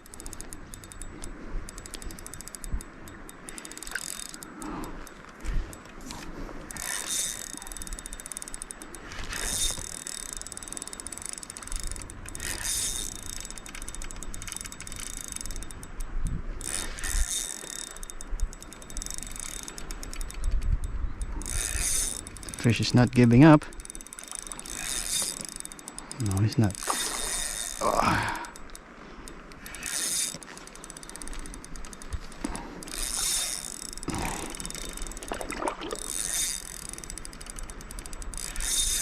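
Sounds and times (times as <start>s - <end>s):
fishing reel ratchet clicking: 0.0s - 39.0s.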